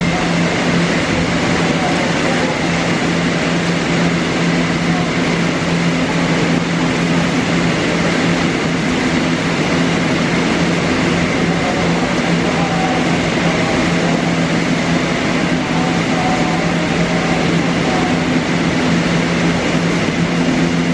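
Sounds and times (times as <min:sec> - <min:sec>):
electric train equipment humming: 0:00.0 - 0:20.9.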